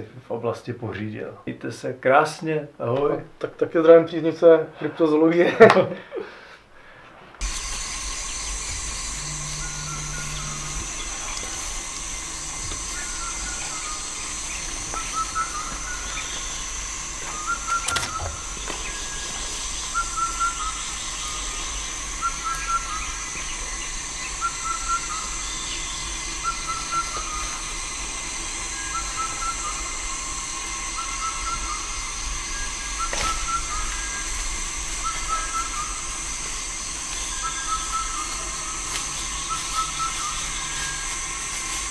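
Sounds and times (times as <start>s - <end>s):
short chirping call: 7.4s - 41.4s
high insect drone: 7.4s - 41.9s.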